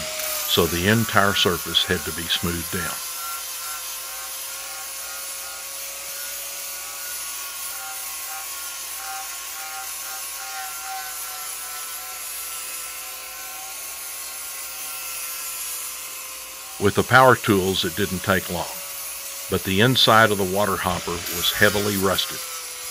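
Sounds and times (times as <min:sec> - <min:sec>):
angle grinder grinding metal: 0:00.0 - 0:22.9.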